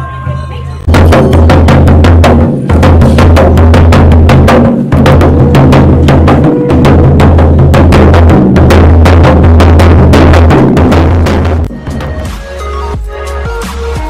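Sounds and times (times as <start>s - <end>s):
folk drum beating: 0.8s - 13.6s.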